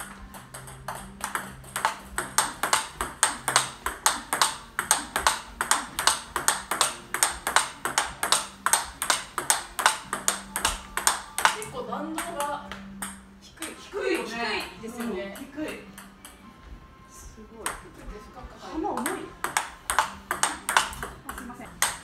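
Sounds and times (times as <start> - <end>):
ball bouncing on table: 0.0 - 16.4, 17.6 - 17.9, 18.9 - 22.0
table tennis ball clicking off rackets: 0.0 - 16.4, 18.9 - 22.0.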